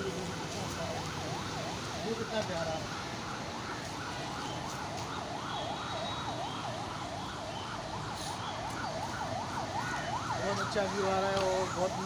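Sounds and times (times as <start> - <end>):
siren yelping: 0.0 - 12.0.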